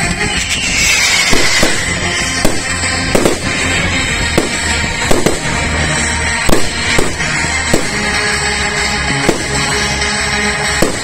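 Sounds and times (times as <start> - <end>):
fireworks bangs: 0.0 - 10.0, 10.6 - 11.0
music playing: 0.0 - 11.0.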